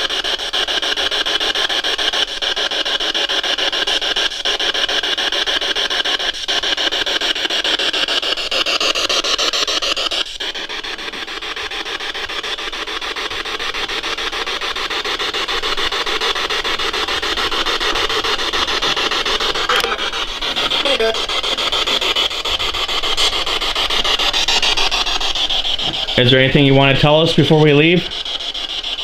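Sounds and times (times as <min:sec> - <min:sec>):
chopping static rasp: 0:00.0 - 0:29.0.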